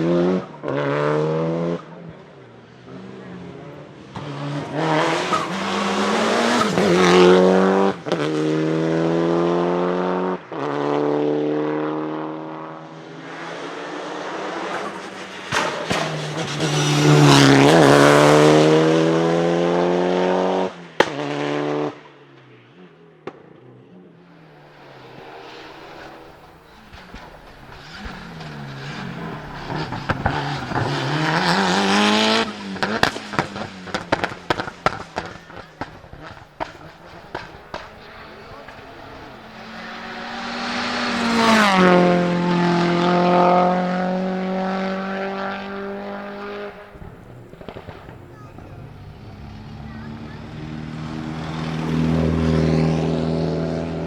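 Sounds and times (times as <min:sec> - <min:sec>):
rally car engine at full throttle: 0:00.0 - 0:54.0.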